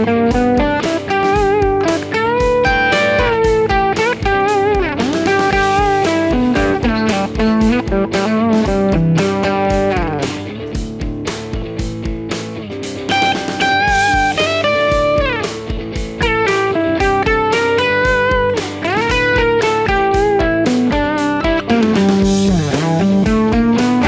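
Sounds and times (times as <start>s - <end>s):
backing track with drums: 0.0s - 24.0s
electric guitar lead: 0.0s - 24.0s.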